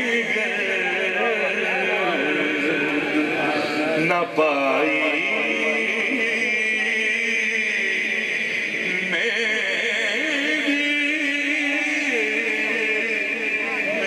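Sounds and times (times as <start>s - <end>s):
man singing over loudspeakers: 0.0s - 14.0s.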